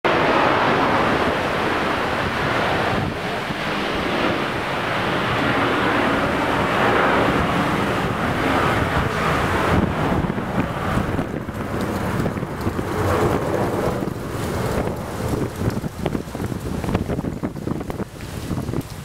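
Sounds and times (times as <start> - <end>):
wind buffeting microphone: 0.1 - 19.0.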